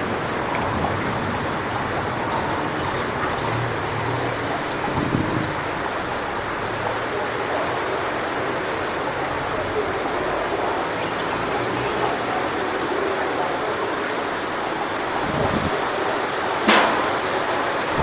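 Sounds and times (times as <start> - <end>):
wind through palm fronds: 0.0 - 18.0.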